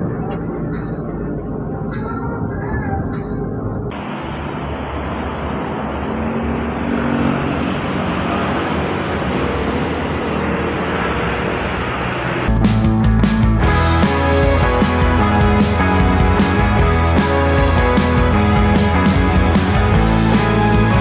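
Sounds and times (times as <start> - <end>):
engines passing outside: 0.0 - 21.0
road noise inside bus: 0.0 - 21.0.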